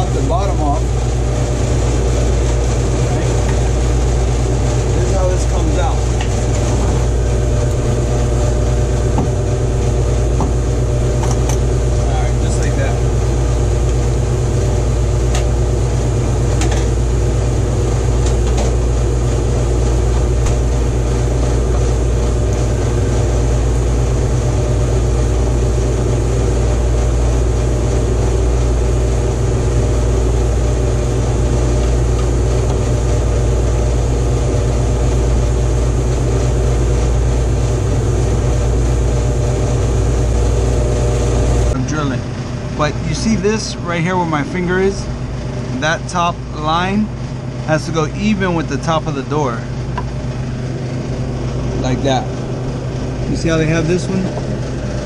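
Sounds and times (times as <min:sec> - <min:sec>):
loud machine hum: 0:00.0 - 0:55.0.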